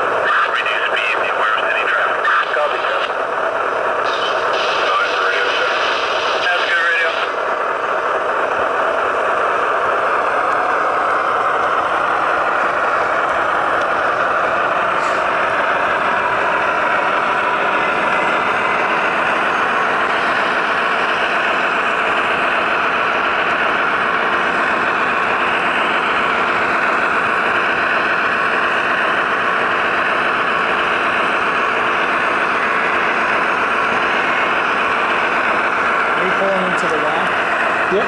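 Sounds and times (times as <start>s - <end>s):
diesel engine drone from small speakers: 0.0s - 38.0s.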